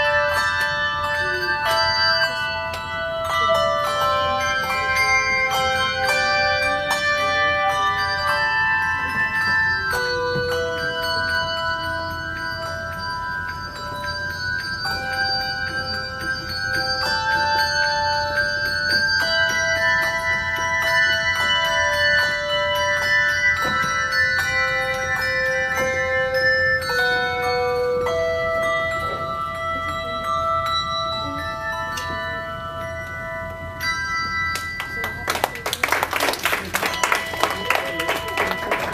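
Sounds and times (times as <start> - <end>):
handbell choir playing: 0.0 - 38.9.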